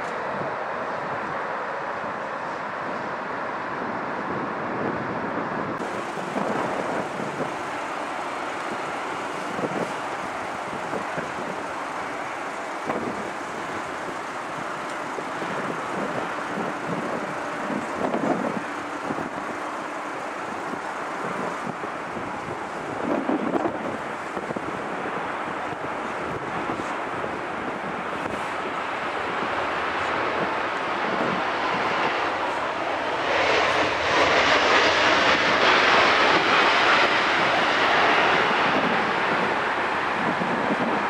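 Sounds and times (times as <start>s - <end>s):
jet noise: 0.0s - 41.0s
road traffic: 0.0s - 41.0s
wind buffeting microphone: 0.0s - 41.0s.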